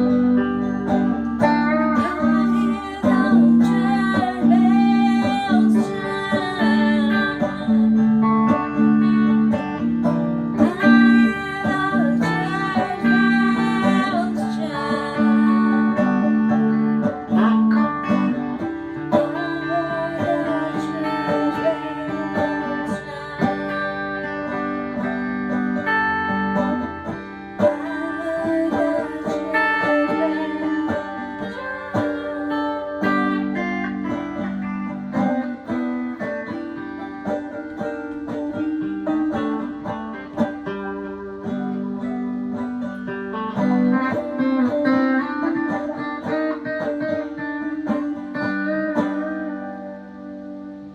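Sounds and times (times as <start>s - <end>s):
electric guitar and banjo playing: 0.0s - 50.9s.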